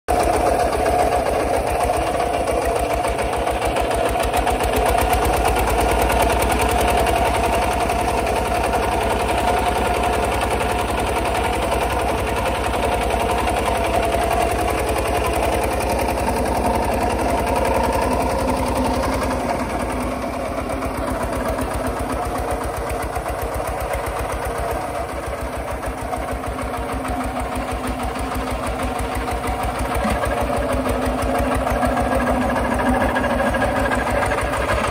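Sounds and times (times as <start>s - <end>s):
diesel engine chugging under load: 0.1s - 34.9s.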